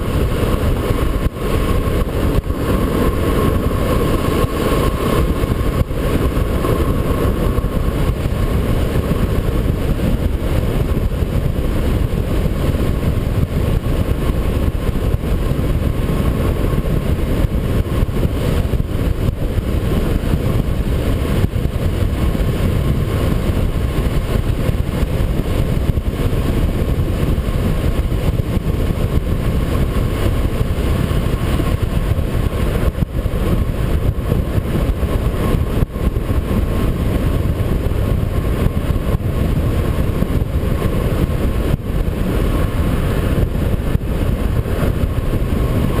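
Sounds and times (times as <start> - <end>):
road and wind noise rumble: 0.0 - 46.0.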